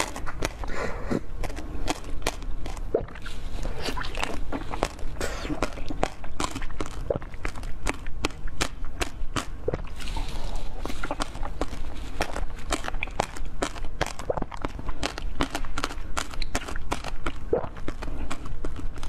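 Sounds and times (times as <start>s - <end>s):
chewing with crunching clicks: 0.0s - 19.0s.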